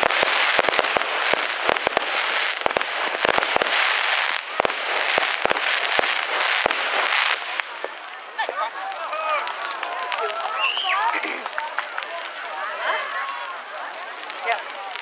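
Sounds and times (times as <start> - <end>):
firework bangs: 0.0 - 15.0
fireworks crackling: 0.0 - 15.0.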